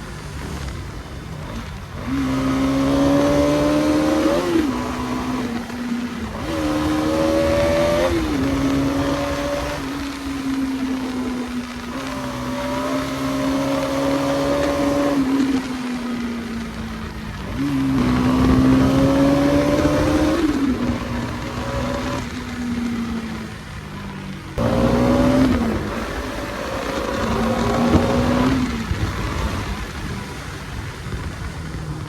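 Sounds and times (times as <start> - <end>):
motorcycle engine revving: 0.0 - 32.0
wind and road noise: 0.0 - 32.0.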